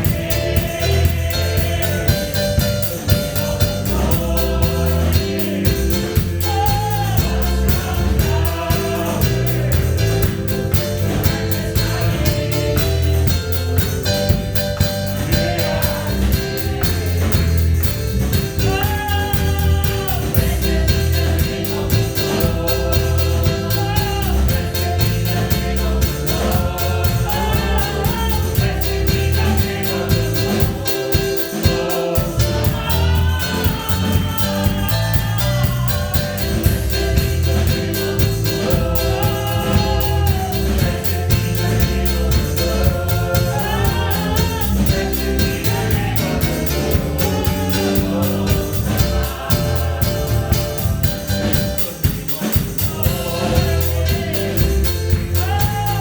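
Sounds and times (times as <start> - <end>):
band with bass and drums: 0.0 - 56.0
voices singing gospel: 0.0 - 56.0.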